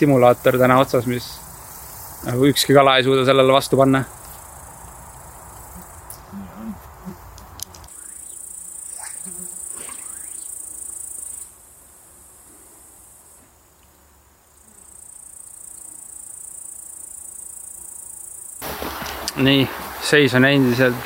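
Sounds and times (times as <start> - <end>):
insects shrilling: 0.0 - 13.4, 14.5 - 19.2.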